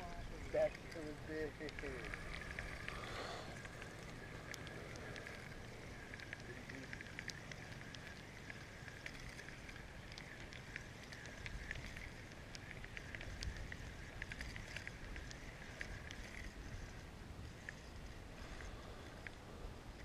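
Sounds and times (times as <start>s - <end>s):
water ticks and drips: 0.0s - 20.0s.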